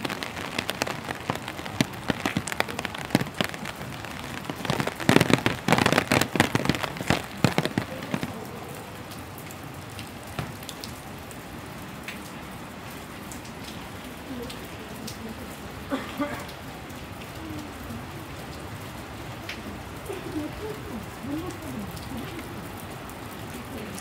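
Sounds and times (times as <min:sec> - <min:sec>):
close raindrop taps: 0:00.0 - 0:11.0, 0:12.0 - 0:17.7, 0:18.5 - 0:24.0
steady rain falling: 0:00.0 - 0:24.0.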